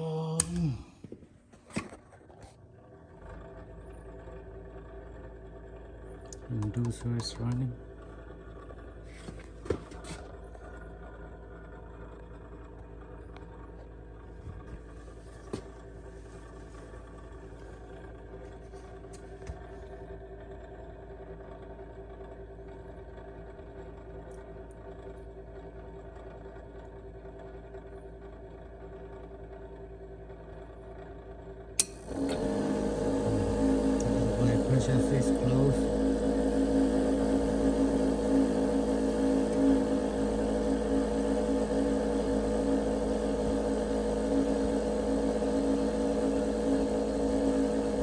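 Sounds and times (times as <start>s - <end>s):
furnace inducer motor humming: 0.0s - 1.3s, 2.0s - 48.0s.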